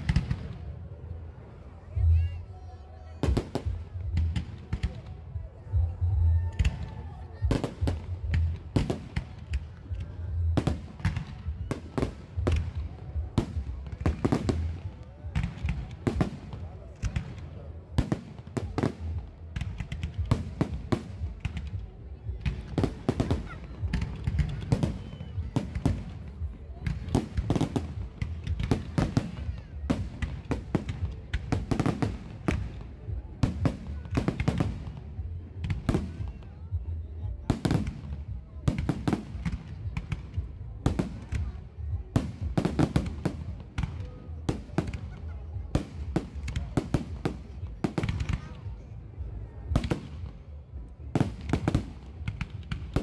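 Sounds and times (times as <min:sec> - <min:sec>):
fireworks bangs and crackles: 0:00.0 - 0:01.0, 0:03.1 - 0:53.0.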